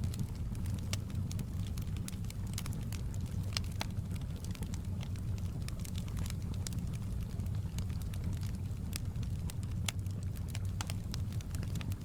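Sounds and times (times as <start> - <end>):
low rumble of fire: 0.0 - 12.0
wood fire crackling: 0.0 - 12.0.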